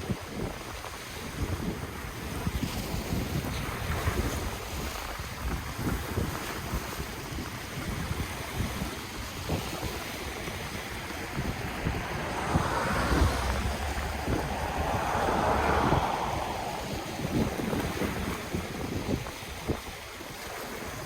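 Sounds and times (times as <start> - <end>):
ocean waves washing ashore: 0.0 - 21.0
wind buffeting microphone: 0.0 - 21.0.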